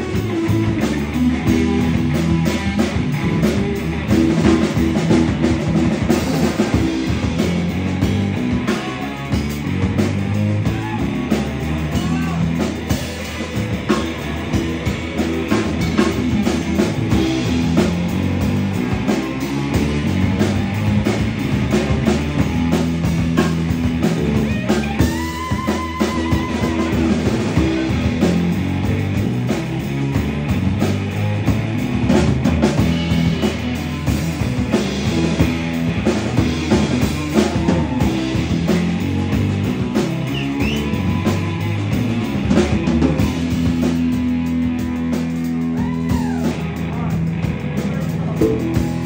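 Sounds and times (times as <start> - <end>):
drums: 0.0 - 49.0
electric guitar: 0.0 - 49.0.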